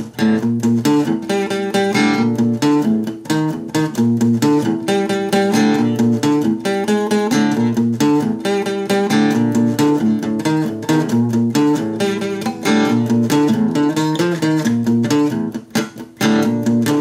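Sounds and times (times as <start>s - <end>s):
guitar-led music with beat: 0.0s - 17.0s.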